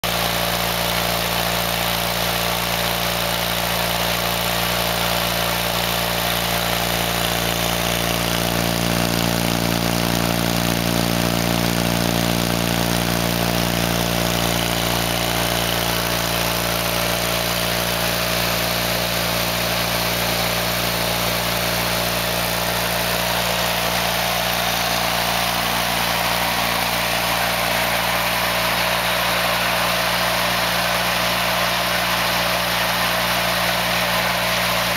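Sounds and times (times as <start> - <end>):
garden tractor engine running: 0.0 - 34.9.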